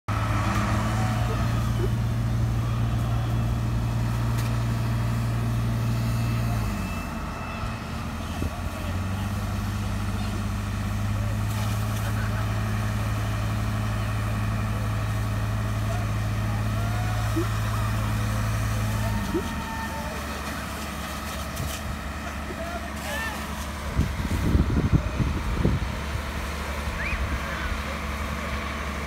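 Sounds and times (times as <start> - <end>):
pump engine running at high revs: 0.0 - 29.0.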